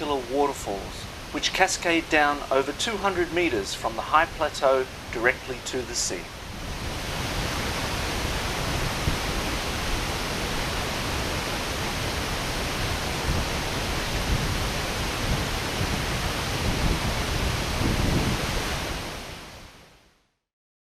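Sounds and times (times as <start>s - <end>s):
waterfall roaring: 0.0s - 19.7s.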